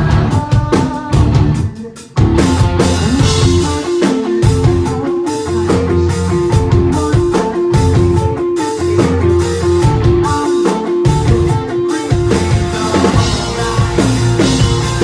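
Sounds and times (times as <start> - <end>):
bass guitar: 0.0 - 15.0
drum kit: 0.0 - 15.0
electric guitar riff: 2.3 - 15.0.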